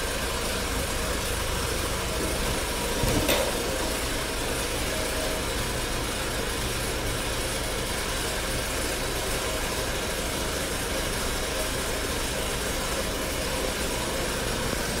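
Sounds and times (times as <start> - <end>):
urinal flushing water rush: 0.0 - 15.0.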